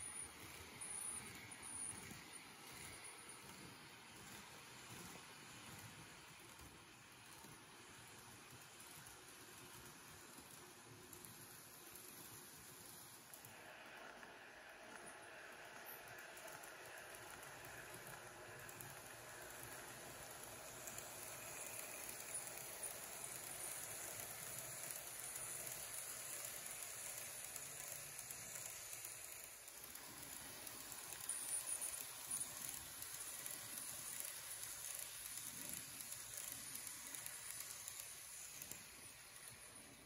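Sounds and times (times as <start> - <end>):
model train whirring: 0.0 - 40.0
wheels clicking on rails: 0.0 - 40.0.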